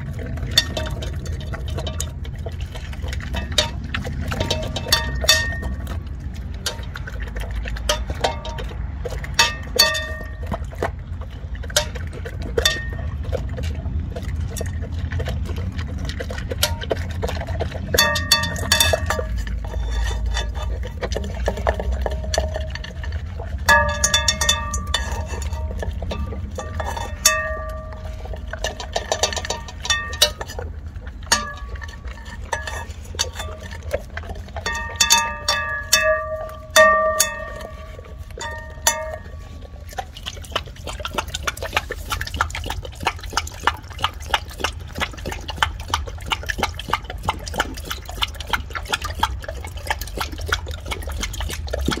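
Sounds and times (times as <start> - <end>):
dog lapping water: 0.0 - 52.0
dog licking metal bowl: 0.0 - 52.0.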